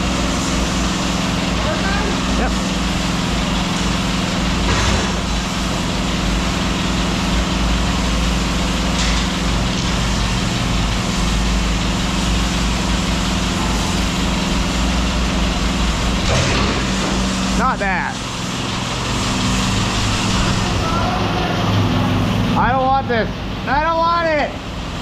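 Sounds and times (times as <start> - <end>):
large engine idling: 0.0 - 25.0.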